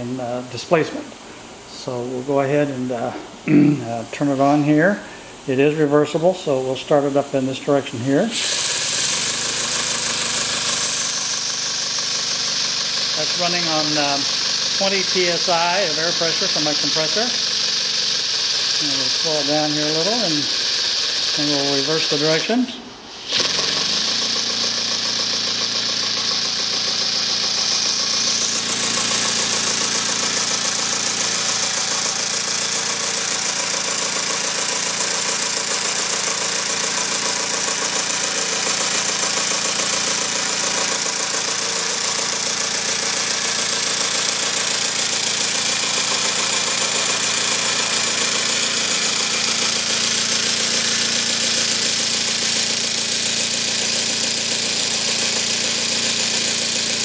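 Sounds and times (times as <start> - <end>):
air hissing from exhausts: 0.0 - 47.2.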